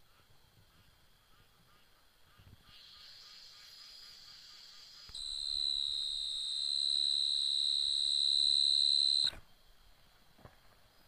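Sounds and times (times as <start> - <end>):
high-pitched whine tone: 0.0 - 9.4.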